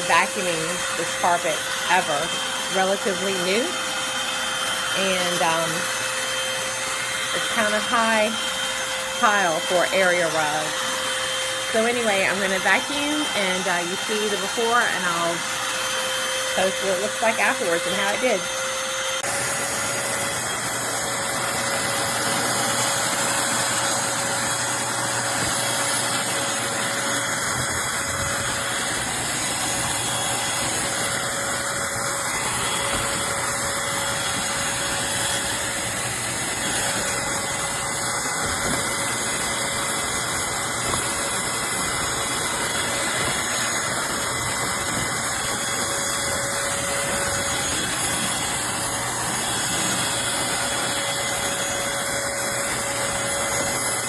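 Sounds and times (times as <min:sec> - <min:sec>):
stick vacuum motor whine: 0:00.0 - 0:54.0.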